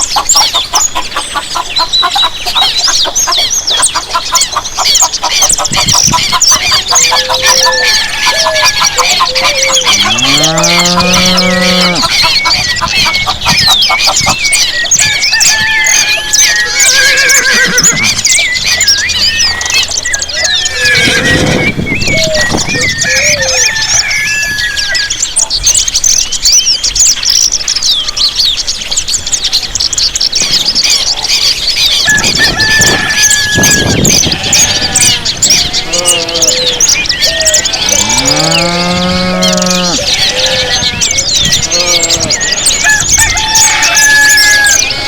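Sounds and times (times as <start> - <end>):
birds chirping and whistling: 0.0 - 45.0.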